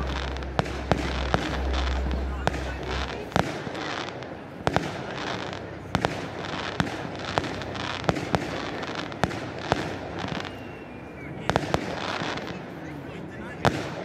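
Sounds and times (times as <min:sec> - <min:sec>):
fireworks bangs: 0:00.0 - 0:12.9, 0:13.5 - 0:14.0
steady background noise: 0:00.0 - 0:14.0.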